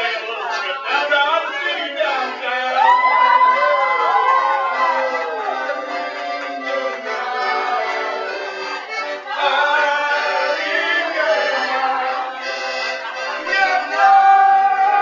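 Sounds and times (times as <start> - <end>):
accordion playing a tune: 0.0 - 15.0.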